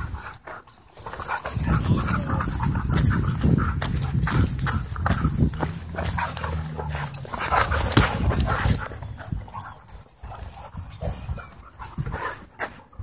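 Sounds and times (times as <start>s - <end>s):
paws scuffling on dirt: 0.0s - 13.0s
dogs growling: 1.0s - 12.1s.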